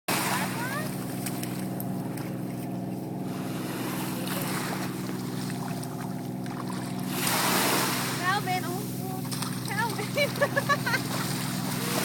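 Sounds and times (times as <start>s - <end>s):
boat engine droning: 0.1s - 12.0s.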